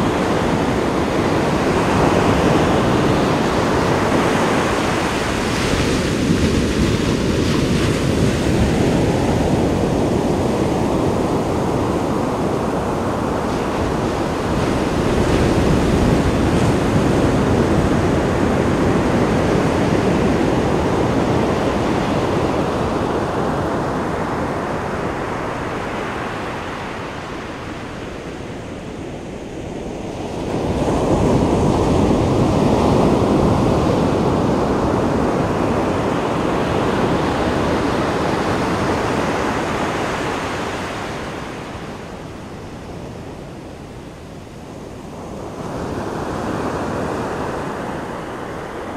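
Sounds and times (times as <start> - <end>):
waves crashing on a beach: 0.0 - 48.9.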